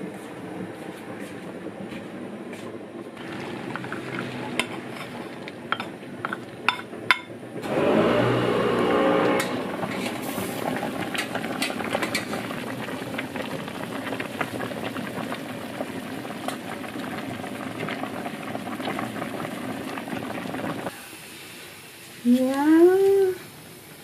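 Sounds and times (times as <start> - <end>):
water boiling with crackling pops: 3.2 - 7.7, 9.2 - 24.0.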